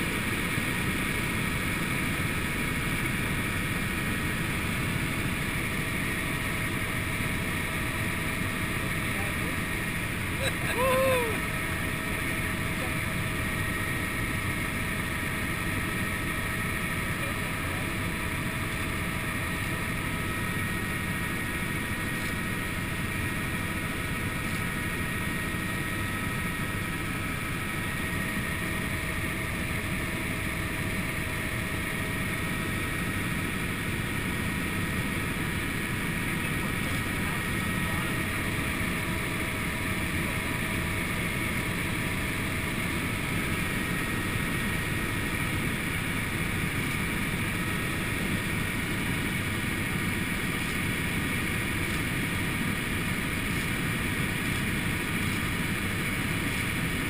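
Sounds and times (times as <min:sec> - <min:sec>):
helicopter engine and rotor noise: 0:00.0 - 0:57.0.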